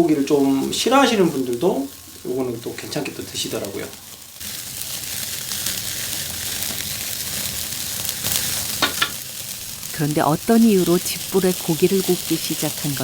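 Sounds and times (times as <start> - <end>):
fire crackling and popping: 0.0 - 13.0
meat sizzling on a grill: 0.0 - 13.0.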